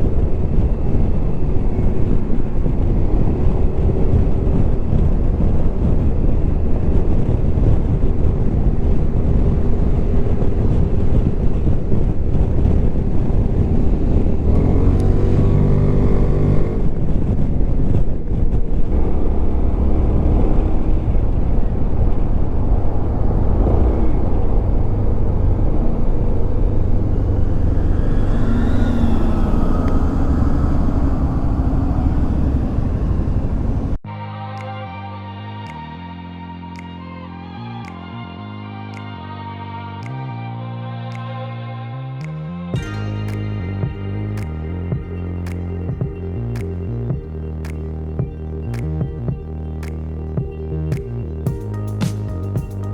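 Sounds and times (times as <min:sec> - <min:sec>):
wind and road rumble: 0:00.0 - 0:34.1, 0:37.0 - 0:52.9.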